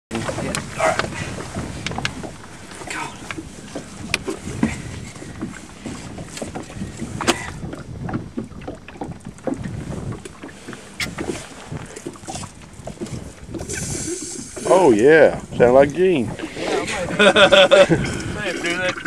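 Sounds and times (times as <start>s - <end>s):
wind on microphone: 0.1s - 19.0s.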